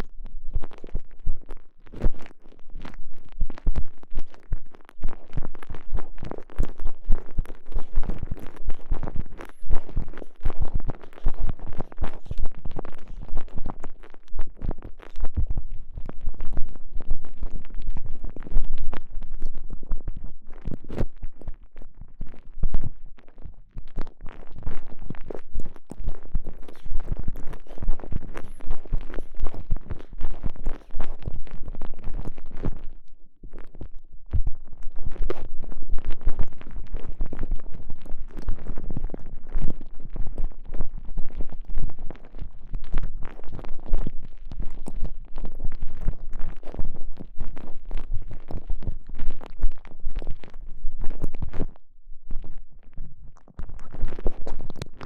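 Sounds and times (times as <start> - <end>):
squishing and rubbing on microphone: 0.0 - 55.0.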